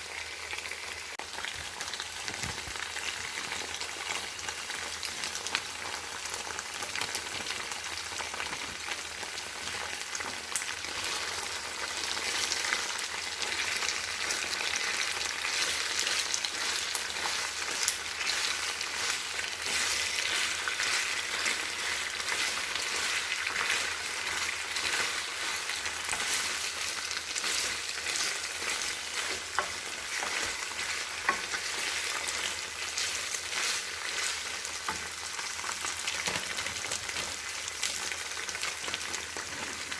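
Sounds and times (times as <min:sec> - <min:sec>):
food sizzling in a frying pan: 0:00.0 - 0:39.9
small pops of frying: 0:00.5 - 0:39.9.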